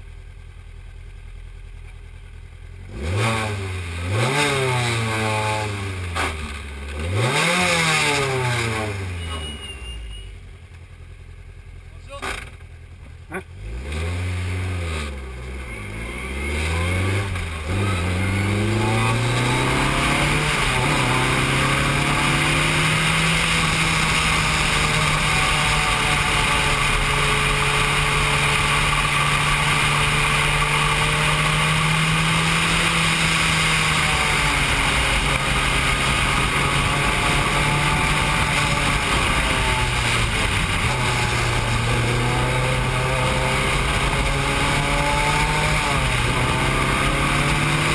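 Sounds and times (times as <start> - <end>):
race car engine revving: 2.9 - 9.8, 13.3 - 47.9.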